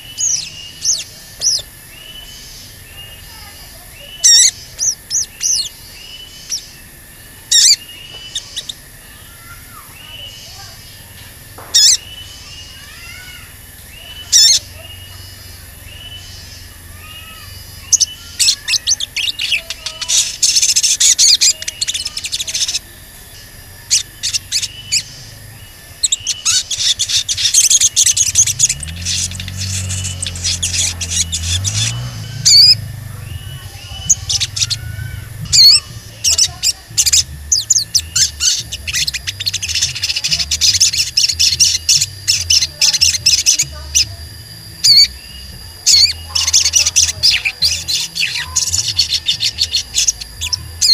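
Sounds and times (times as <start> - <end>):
bird singing high chirps: 0.0 - 50.9.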